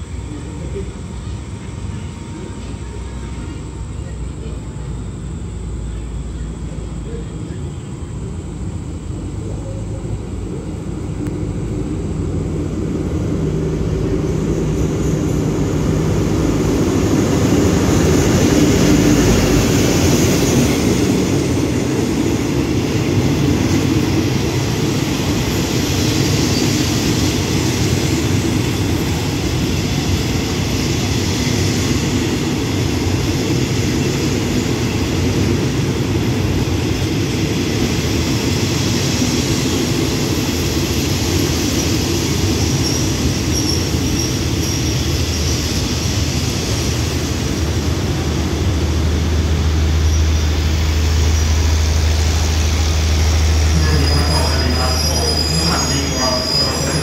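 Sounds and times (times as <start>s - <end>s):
coach wheels rumbling on rail: 0.0s - 57.0s
diesel locomotive engine: 0.0s - 57.0s.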